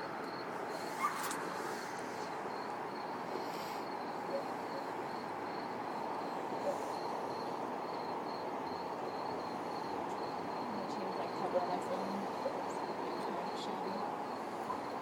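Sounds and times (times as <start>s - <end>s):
insect chirping faintly: 0.0s - 15.0s
outdoor background noise: 0.0s - 15.0s.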